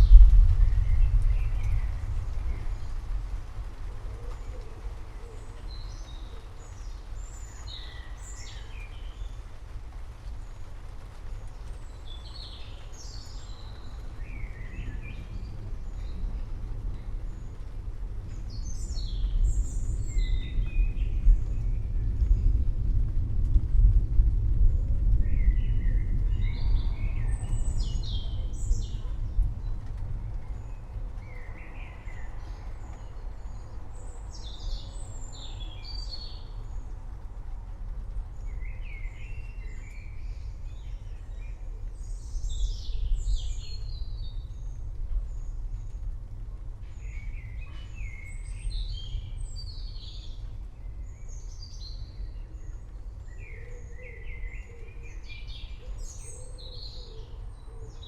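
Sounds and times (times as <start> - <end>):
forest birds chirping: 0.0 - 22.6, 24.7 - 58.0
distant thunder rumble: 0.0 - 56.4.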